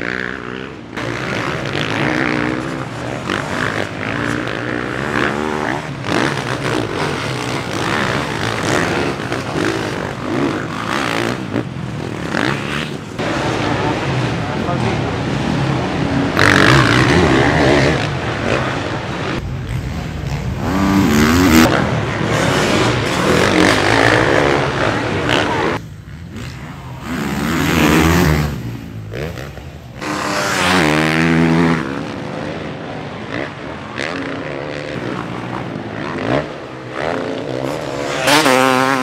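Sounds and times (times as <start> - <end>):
motocross bike engines revving: 0.0 - 39.0.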